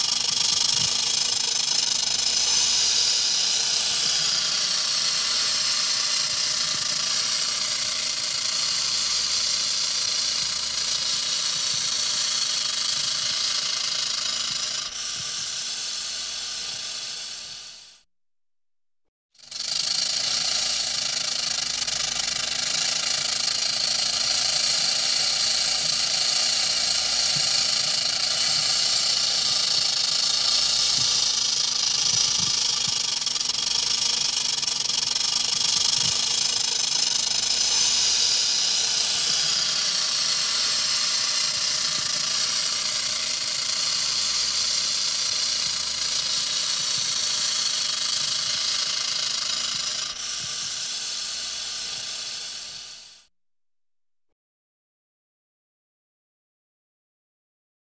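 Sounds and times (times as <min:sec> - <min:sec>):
rattlesnake rattling: 0:00.0 - 0:18.0, 0:19.4 - 0:53.3.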